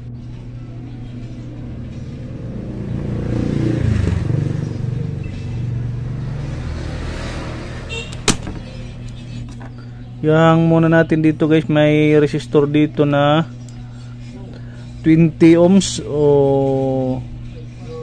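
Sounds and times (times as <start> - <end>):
motor vehicle engine hum: 0.0 - 18.0.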